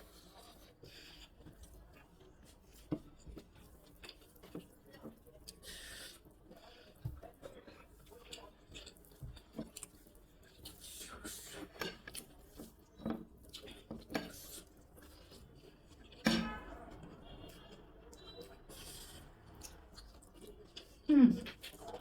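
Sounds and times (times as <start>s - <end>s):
food mixed and eaten by hand: 0.0s - 22.0s.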